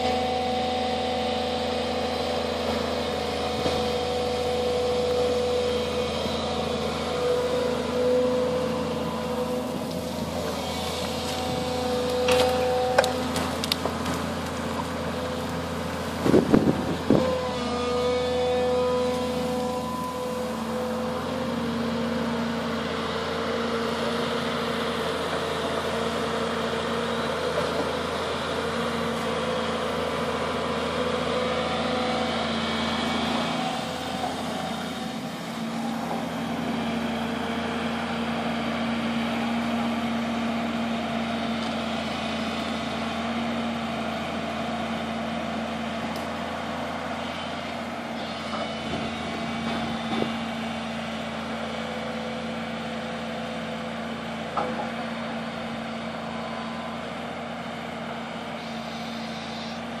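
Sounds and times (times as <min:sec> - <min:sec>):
excavator diesel engine running: 0:00.0 - 1:00.0.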